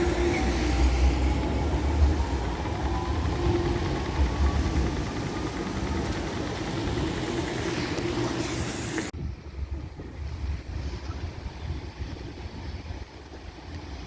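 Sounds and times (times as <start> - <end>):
tram rumbling on track: 0.0 - 14.0.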